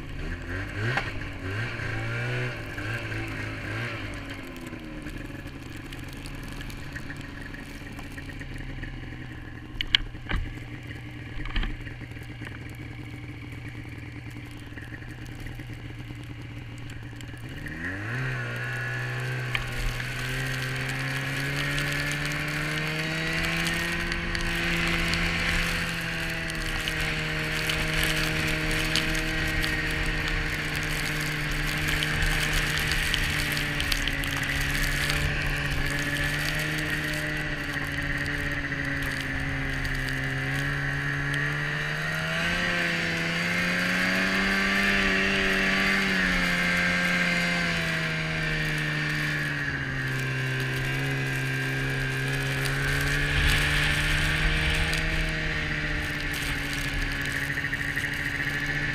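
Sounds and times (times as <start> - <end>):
snowmobile engine: 0.0 - 58.9
track and snow hiss: 0.0 - 58.9.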